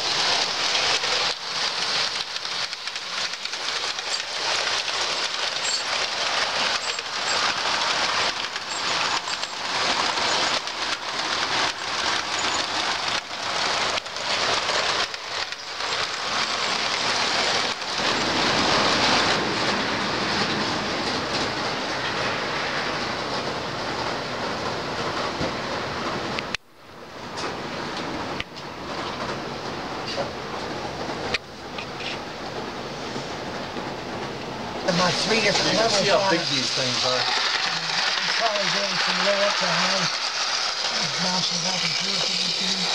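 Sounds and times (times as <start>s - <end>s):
model trains running on track: 0.0s - 42.9s.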